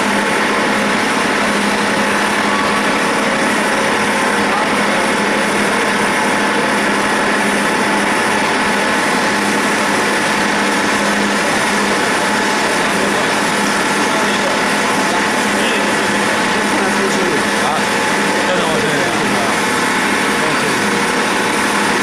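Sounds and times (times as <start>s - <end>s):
lathe cutting metal: 0.0s - 22.0s
machine hum: 0.0s - 22.0s.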